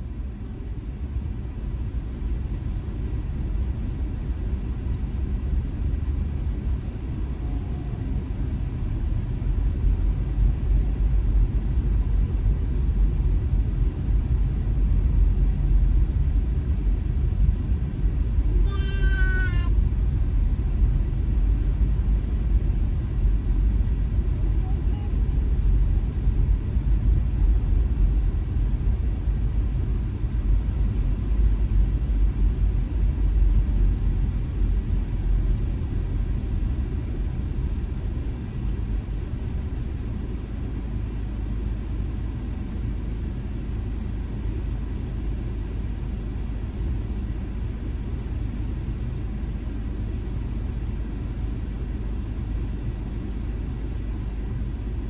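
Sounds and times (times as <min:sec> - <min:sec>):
road and engine rumble inside car: 0:00.0 - 0:55.0.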